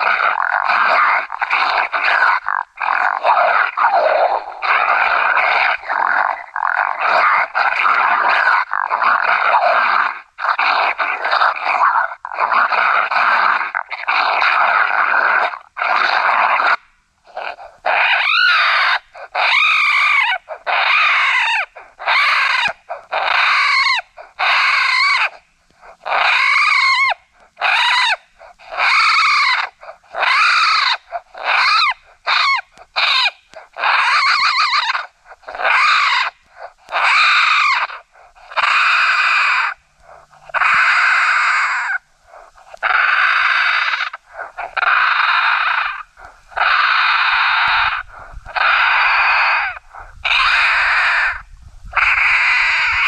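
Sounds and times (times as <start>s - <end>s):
raccoons squalling screams: 0.0s - 53.0s.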